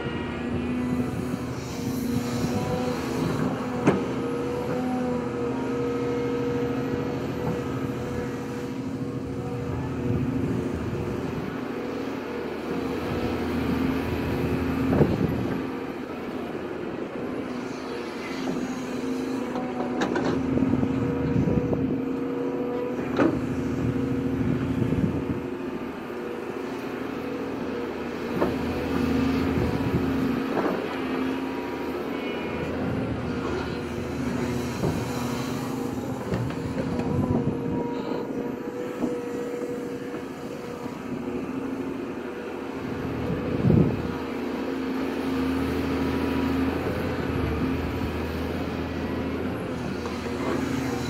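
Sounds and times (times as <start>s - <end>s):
excavator engine and hydraulics: 0.0s - 51.0s.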